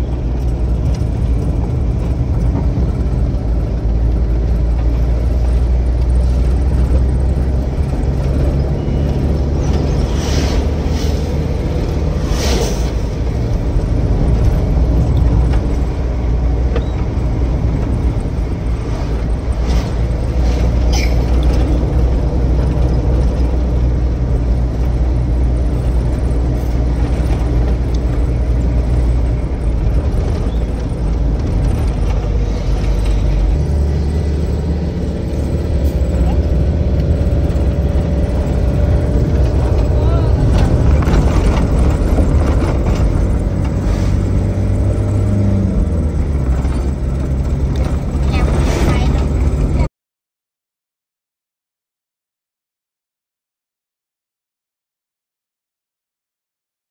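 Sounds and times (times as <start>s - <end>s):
vehicle engine and road rumble: 0.0s - 49.9s.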